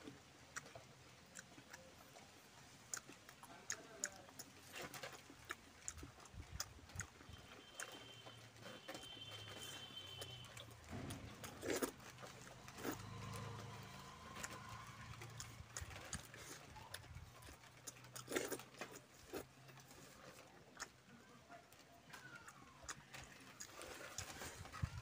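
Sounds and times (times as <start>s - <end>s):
chewing with wet mouth clicks: 0.0s - 25.0s.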